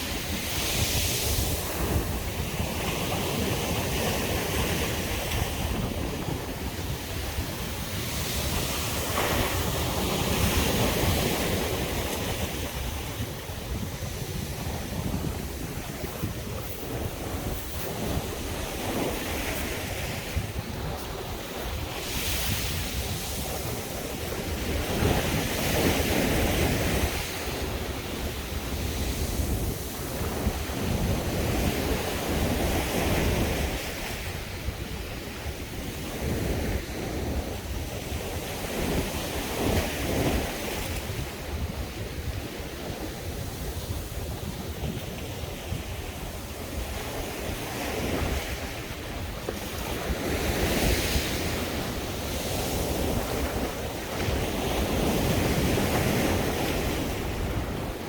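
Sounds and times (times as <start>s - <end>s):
sea waves breaking on beach: 0.0s - 58.0s
wind buffeting microphone: 0.0s - 58.0s.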